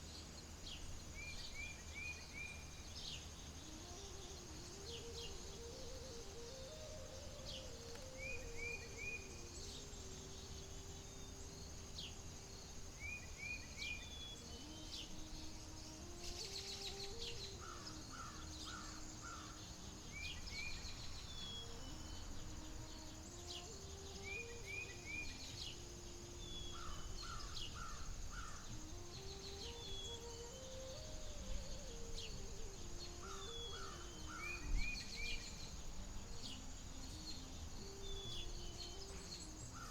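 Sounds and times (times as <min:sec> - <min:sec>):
bird chirping: 0:00.0 - 0:39.9
high insect drone: 0:00.0 - 0:39.9.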